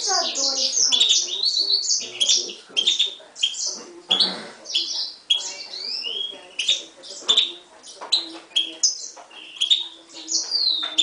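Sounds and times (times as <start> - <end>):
finch singing chirps and trills: 0.0 - 11.0.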